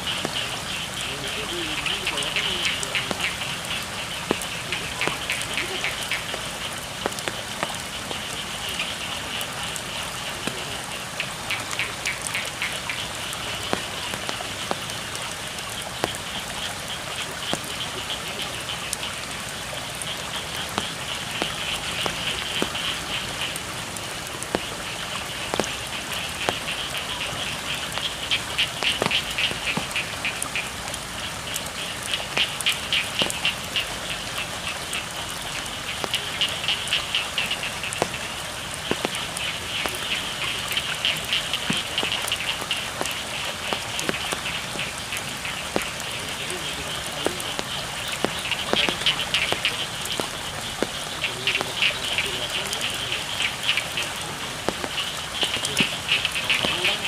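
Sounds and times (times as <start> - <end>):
frogs calling in pulsing trills: 0.0 - 57.0
rain falling on water: 0.0 - 57.0.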